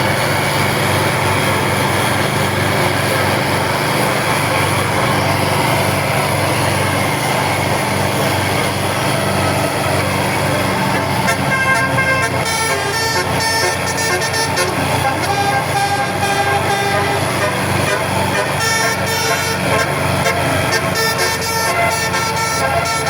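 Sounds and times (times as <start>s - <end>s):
engine droning: 0.0s - 23.0s
multi-tone bus horn tune: 0.0s - 23.0s.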